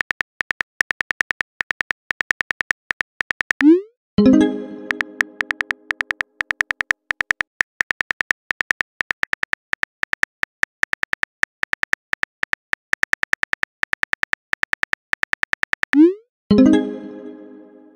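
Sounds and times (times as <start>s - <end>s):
phone keyboard key clicks: 0.0s - 3.6s, 4.9s - 16.0s.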